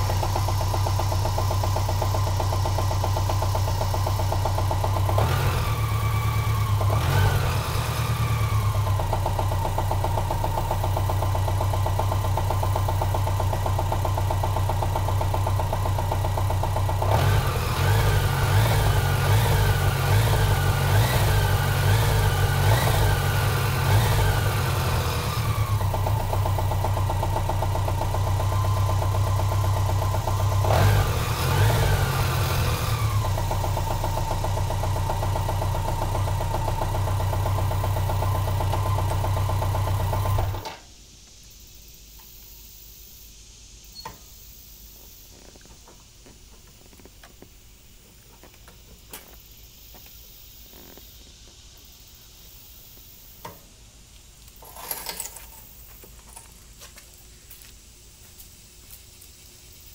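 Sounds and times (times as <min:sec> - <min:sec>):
motorcycle engine idling and revving: 0:00.0 - 0:40.9, 0:45.0 - 0:53.7.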